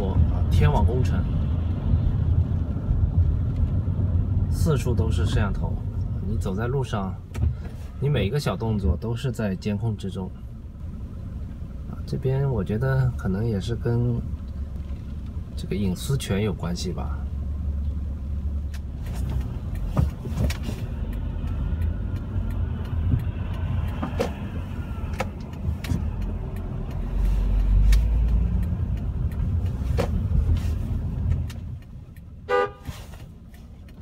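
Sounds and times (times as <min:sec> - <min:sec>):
road and engine rumble: 0:00.0 - 0:34.0.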